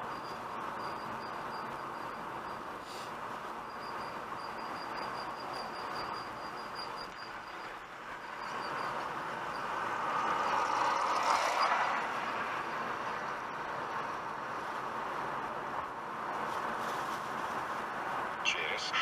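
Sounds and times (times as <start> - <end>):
tyre and road noise: 0.0 - 19.0.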